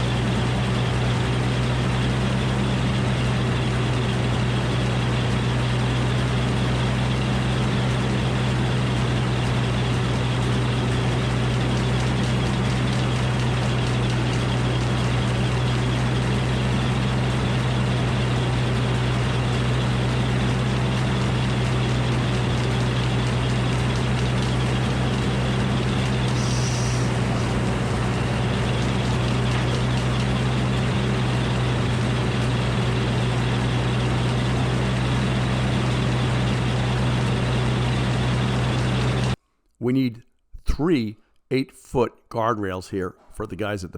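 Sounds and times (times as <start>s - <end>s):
sawmill engine low hum: 0.0s - 41.3s.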